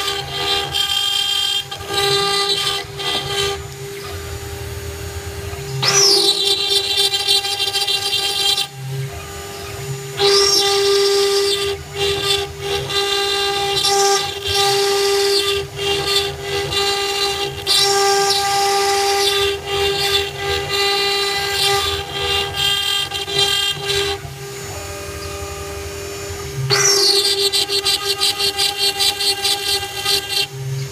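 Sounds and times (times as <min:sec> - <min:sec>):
bit engraving stone: 0:00.0 - 0:30.9
router spindle whining: 0:00.0 - 0:30.9.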